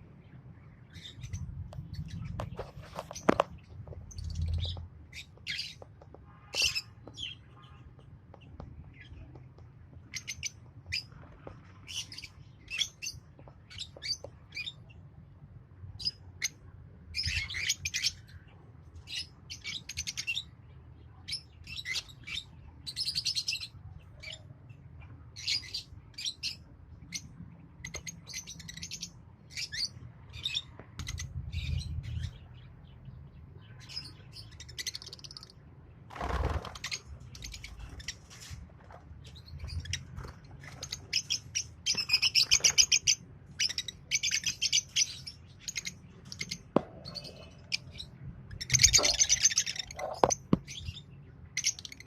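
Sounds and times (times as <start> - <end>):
birds chirping: 0.1 - 15.2, 15.9 - 52.0.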